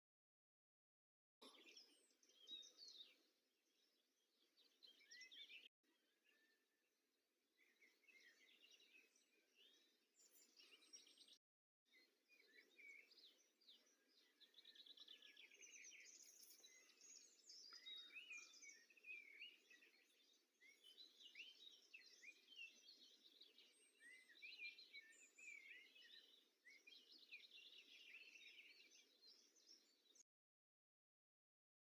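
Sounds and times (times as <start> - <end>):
songbirds chirping and trilling: 1.4 - 30.2.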